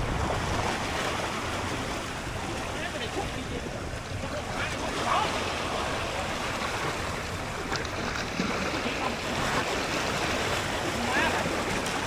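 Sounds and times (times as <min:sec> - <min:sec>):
sea waves: 0:00.0 - 0:12.0
wind on microphone: 0:00.0 - 0:12.0.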